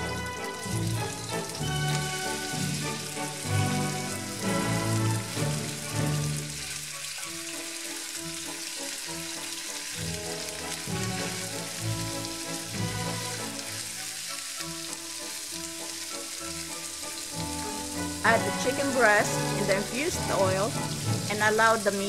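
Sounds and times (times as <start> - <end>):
background music: 0.0 - 22.0
chicken sizzling in pan: 0.0 - 22.0.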